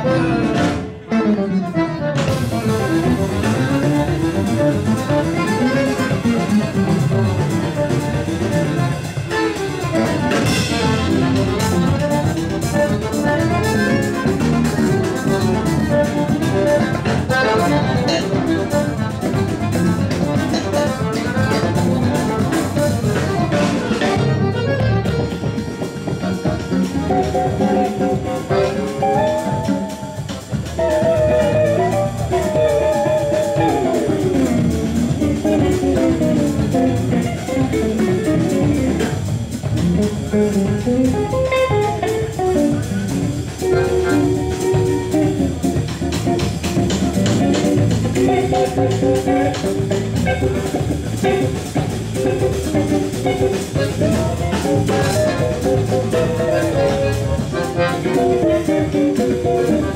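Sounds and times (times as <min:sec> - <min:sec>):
jazz band playing: 0:00.0 - 0:59.9.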